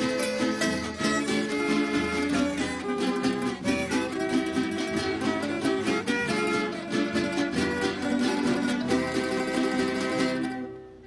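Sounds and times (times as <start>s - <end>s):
plucked string melody: 0.0s - 11.0s
strummed chords: 0.0s - 11.0s.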